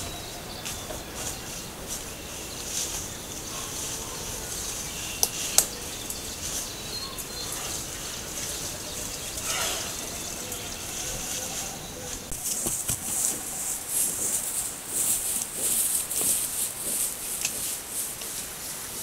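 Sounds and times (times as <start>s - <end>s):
faint bird calls: 0.0s - 15.2s
steady hiss: 0.0s - 19.0s.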